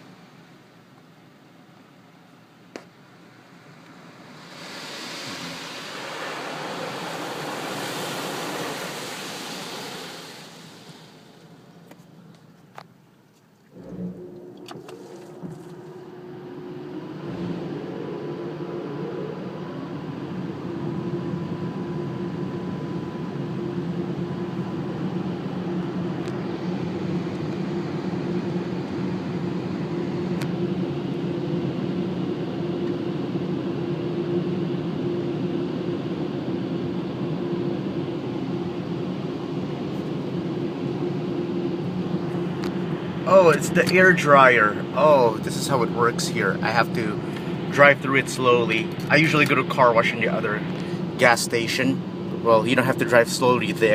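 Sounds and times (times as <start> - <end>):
car wash air blowers: 3.2 - 12.4, 13.7 - 53.9.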